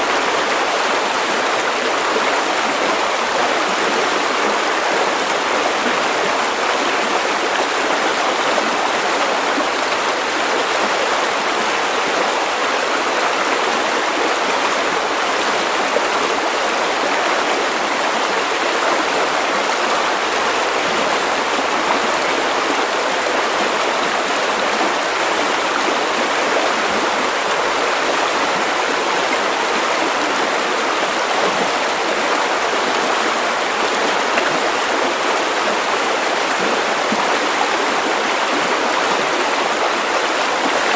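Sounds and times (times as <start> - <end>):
river water over stones: 0.0 - 40.9.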